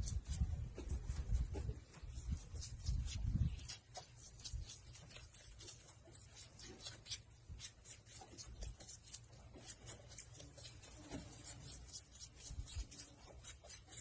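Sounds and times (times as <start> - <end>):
faint dry scratching and rustling: 0.0 - 14.0.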